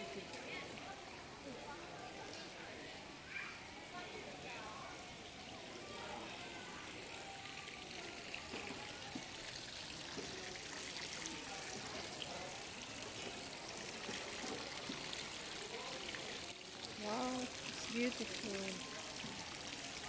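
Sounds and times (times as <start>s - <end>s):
fountain water splashing: 0.0s - 20.0s.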